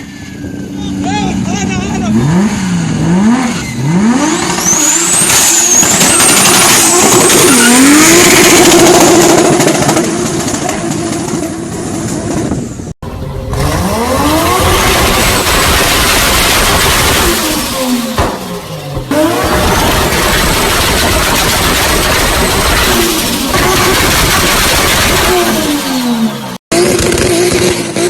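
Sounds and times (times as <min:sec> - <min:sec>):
second engine revving: 0:01.4 - 0:11.4, 0:13.0 - 0:28.0
car engine revving: 0:01.4 - 0:28.0.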